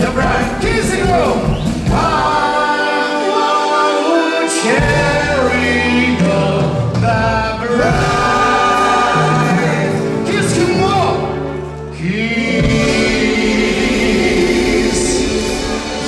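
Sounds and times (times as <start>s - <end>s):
live band playing a song: 0.0s - 16.0s.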